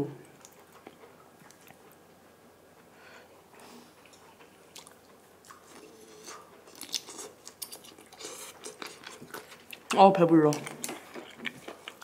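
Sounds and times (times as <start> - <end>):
chewing shrimp: 0.2 - 2.2, 3.5 - 12.0.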